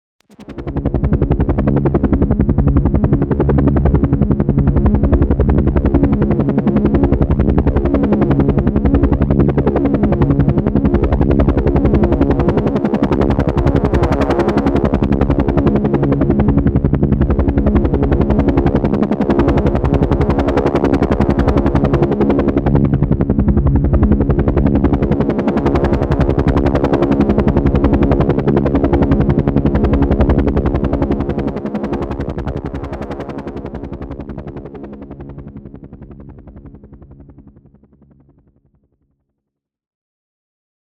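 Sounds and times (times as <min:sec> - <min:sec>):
helicopter engine tone: 0:00.4 - 0:38.7
helicopter rotor blades beating: 0:00.4 - 0:39.0.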